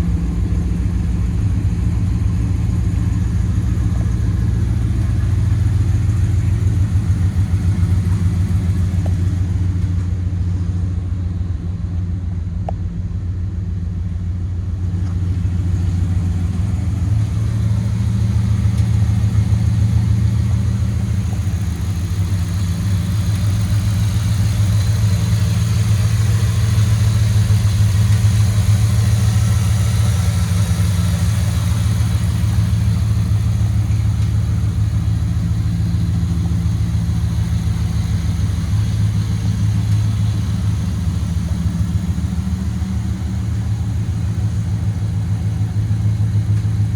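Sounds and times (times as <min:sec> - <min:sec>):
pickup truck engine running: 0:00.0 - 0:46.9.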